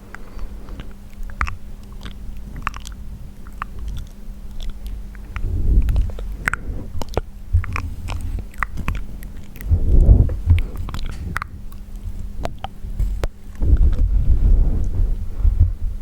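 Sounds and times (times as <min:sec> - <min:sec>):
wet mouth clicks and smacks: 0:00.0 - 0:09.8, 0:10.4 - 0:14.0.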